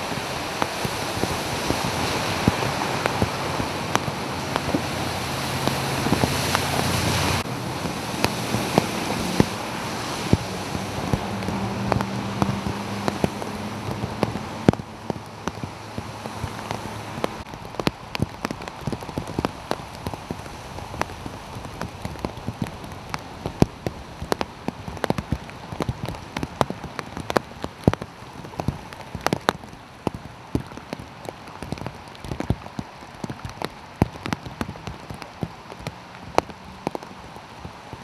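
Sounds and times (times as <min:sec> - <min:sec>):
raindrops tapping: 0:00.0 - 0:38.0
steady rain hiss: 0:00.0 - 0:38.0.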